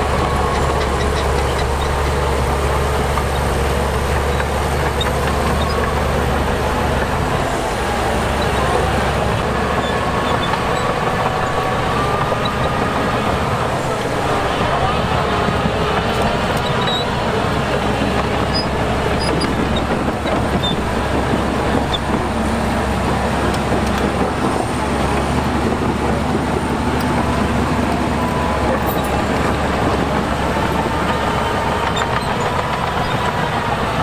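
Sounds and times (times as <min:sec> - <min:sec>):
heavy diesel machinery running: 0:00.0 - 0:34.0.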